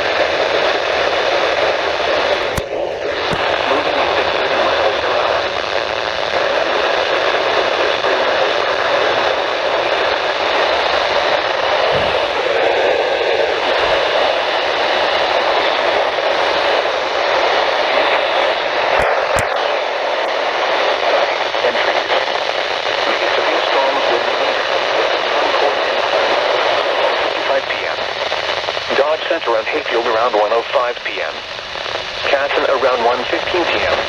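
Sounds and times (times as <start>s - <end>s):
radio static hiss: 0.0s - 34.0s.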